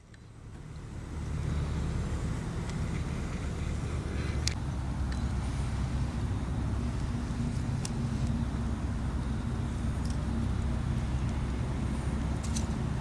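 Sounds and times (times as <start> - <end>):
faint hiss: 0.0 - 13.0
low outdoor rumble: 0.0 - 13.0.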